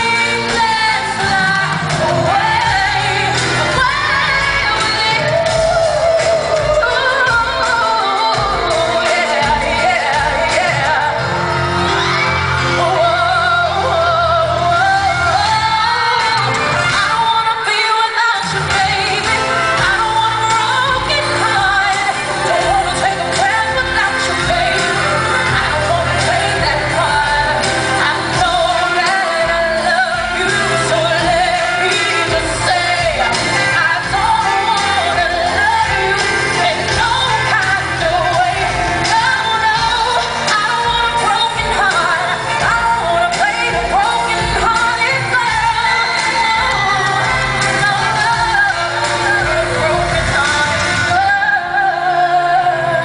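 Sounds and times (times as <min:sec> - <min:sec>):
band playing: 0:00.0 - 0:53.0
woman singing a pop ballad: 0:00.0 - 0:53.0.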